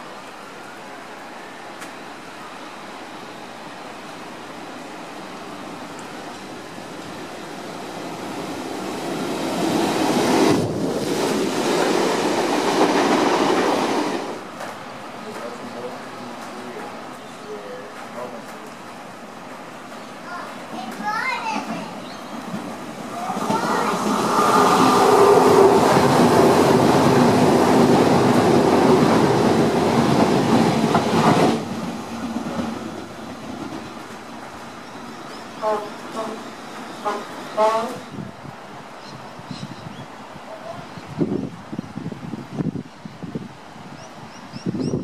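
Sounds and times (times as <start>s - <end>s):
electric train passing: 0.6s - 20.2s, 20.9s - 39.5s.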